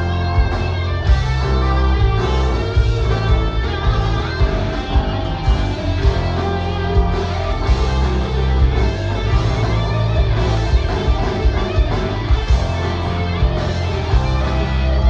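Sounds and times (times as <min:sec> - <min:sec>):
electric guitar: 0:00.0 - 0:15.0
rock band playing live: 0:00.0 - 0:15.0.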